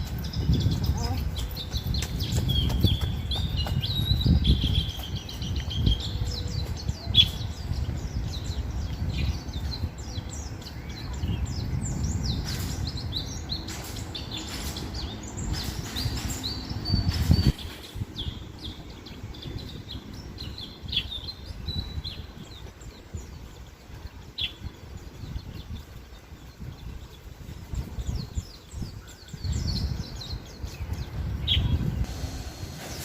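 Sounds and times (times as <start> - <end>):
birds twittering: 0.0 - 33.0
steady low rumble: 0.0 - 33.0.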